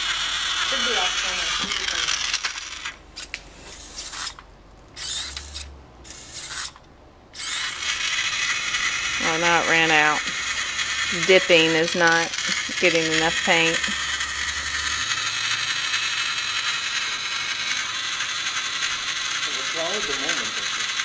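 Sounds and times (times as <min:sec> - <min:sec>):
small motors whirring and rattling: 0:00.0 - 0:21.0.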